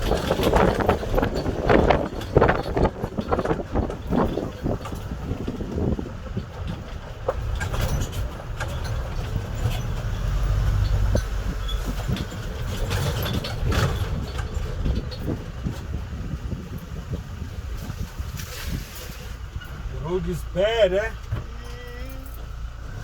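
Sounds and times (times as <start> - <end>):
sharp knocks and rattles: 0.0 - 18.4
vehicle low rumble: 0.0 - 23.0.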